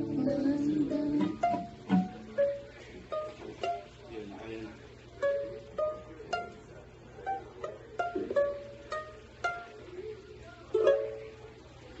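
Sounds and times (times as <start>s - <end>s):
plucked string instrument: 0.0s - 4.3s, 5.1s - 11.7s.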